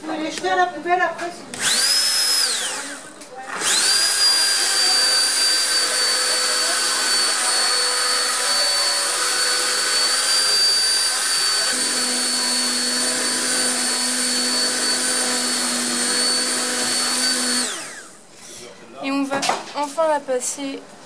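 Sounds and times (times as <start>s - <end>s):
stick blender motor whine: 1.6s - 18.6s.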